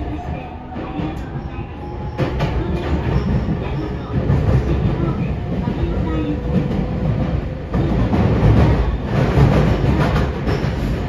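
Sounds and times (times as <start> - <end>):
train rumbling in motion: 0.0 - 11.0.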